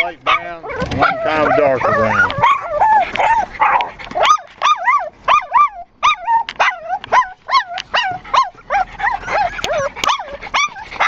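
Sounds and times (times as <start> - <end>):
puppies yelping and whining: 0.0 - 11.0.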